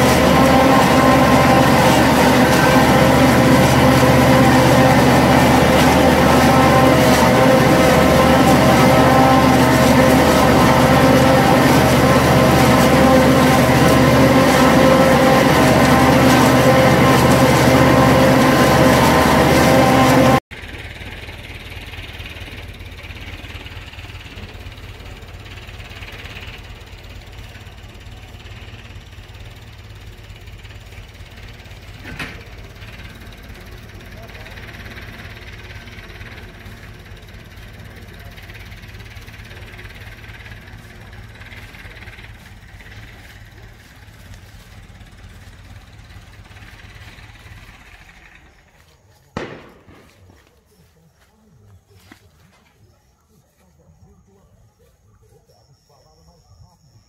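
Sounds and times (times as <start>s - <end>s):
engine running: 0.0s - 56.9s
farm machinery whining: 0.0s - 56.9s.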